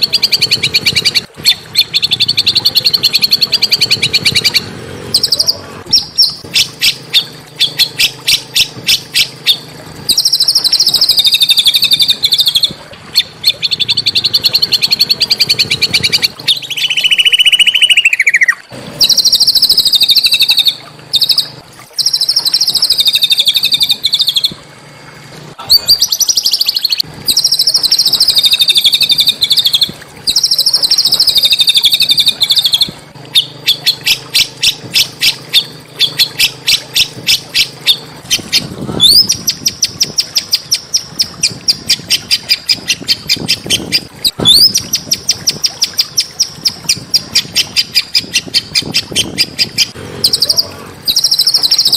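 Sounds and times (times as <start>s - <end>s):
songbird singing trills: 0.0s - 24.6s, 25.6s - 51.9s.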